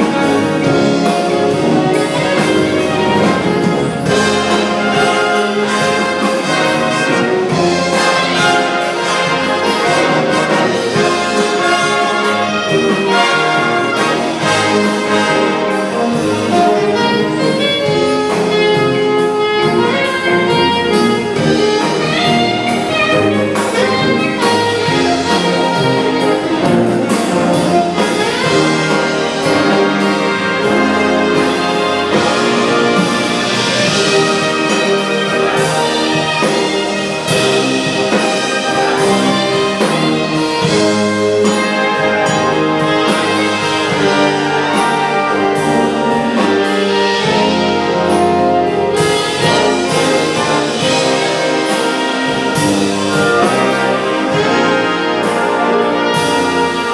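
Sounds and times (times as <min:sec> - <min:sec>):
concert wind band playing: 0:00.0 - 0:56.9
percussion keeping a beat: 0:00.0 - 0:56.9.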